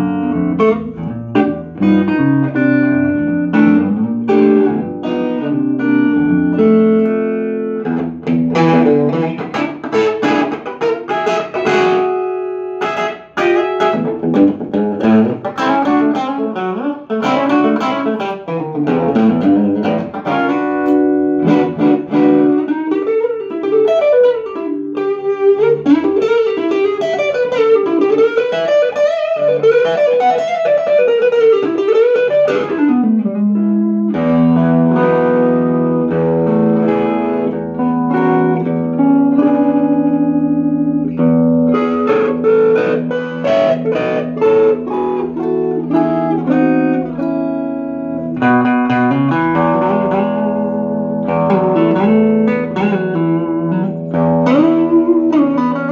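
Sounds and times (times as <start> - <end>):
electric guitar playing: 0.0 - 55.9.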